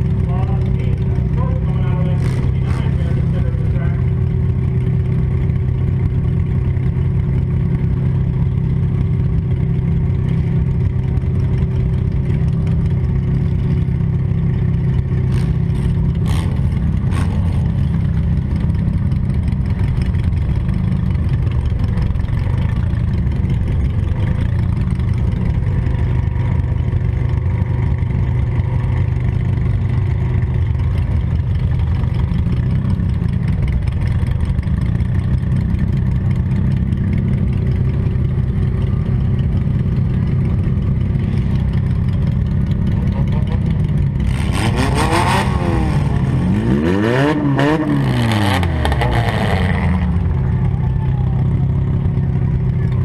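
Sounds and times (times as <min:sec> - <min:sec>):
car engine running loud: 0:00.0 - 0:53.0.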